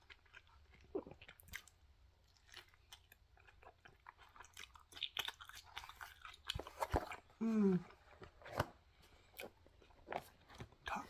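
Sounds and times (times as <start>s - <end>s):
person chewing food: 0.0s - 8.6s, 9.2s - 11.0s.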